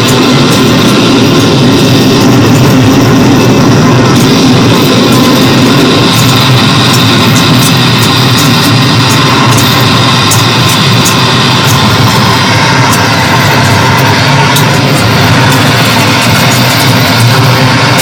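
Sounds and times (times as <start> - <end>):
distorted noise electronics: 0.0 - 18.0.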